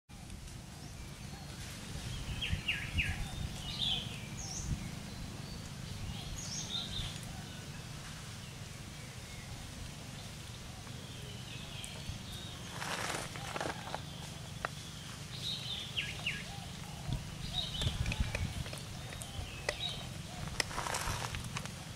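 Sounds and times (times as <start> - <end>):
low outdoor rumble: 0.1 - 21.9.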